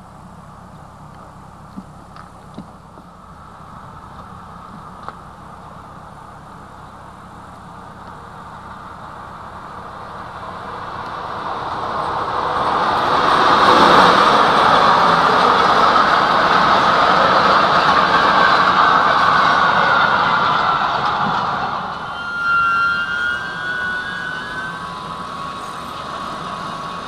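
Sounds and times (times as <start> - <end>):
freight train wheels rolling on rails: 0.0 - 27.0.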